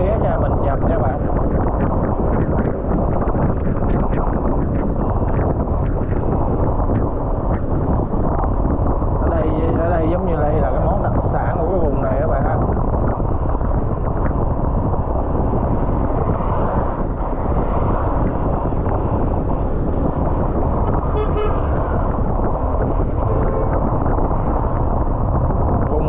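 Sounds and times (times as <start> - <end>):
engine and road noise rumble: 0.0 - 26.0
wind blast on microphone: 0.0 - 26.0.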